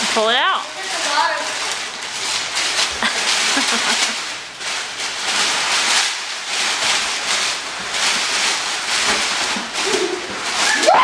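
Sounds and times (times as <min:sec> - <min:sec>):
packing paper crinkling: 0:00.0 - 0:11.0.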